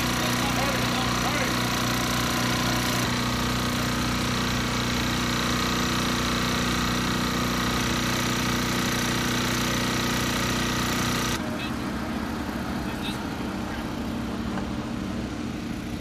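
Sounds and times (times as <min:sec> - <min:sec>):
portable pump engine running: 0:00.0 - 0:16.0.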